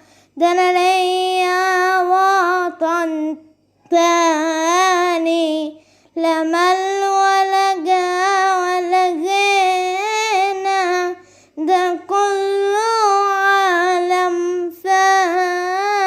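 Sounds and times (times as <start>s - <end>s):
high solo voice singing a hymn: 0.0s - 16.0s.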